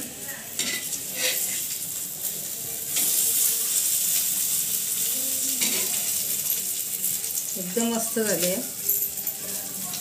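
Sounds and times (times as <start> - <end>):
hot oil sizzling: 0.0 - 10.0.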